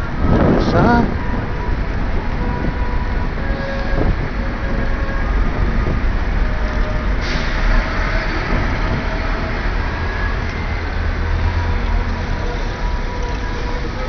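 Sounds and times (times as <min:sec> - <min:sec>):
large vehicle engine rumble: 0:00.0 - 0:14.0.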